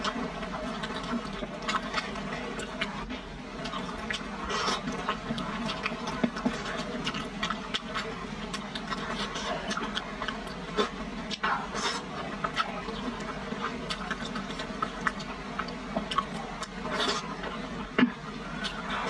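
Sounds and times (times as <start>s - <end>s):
wet chewing and slurping: 0.0s - 19.0s.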